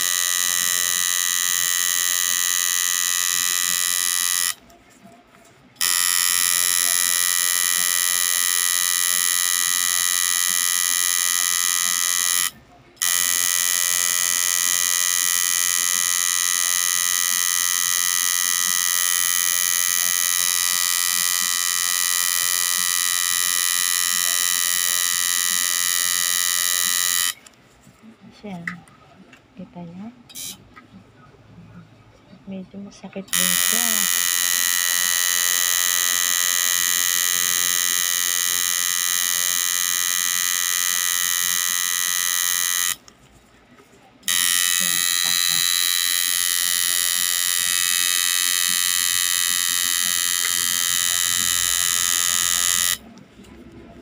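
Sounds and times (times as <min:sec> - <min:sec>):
tattoo machine buzzing: 0:00.0 - 0:04.6, 0:05.8 - 0:27.5, 0:30.3 - 0:30.6, 0:33.3 - 0:43.1, 0:44.3 - 0:53.1.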